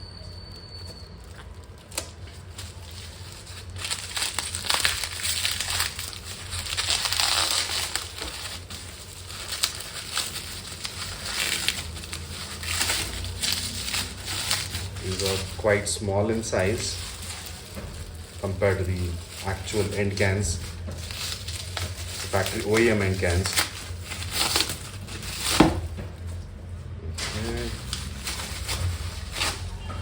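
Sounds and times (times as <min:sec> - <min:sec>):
plastic wrap and foam crinkling: 0:01.0 - 0:26.6, 0:27.2 - 0:30.0.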